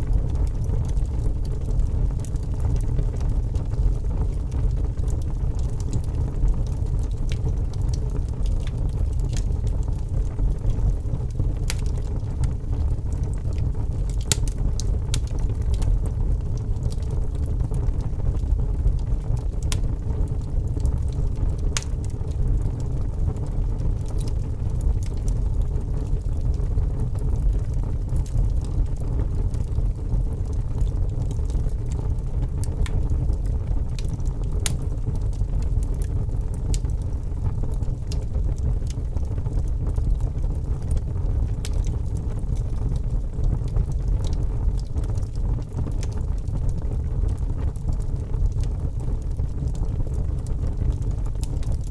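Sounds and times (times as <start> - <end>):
fire crackling and popping: 0.0 - 51.9
low rumble of fire: 0.0 - 51.9.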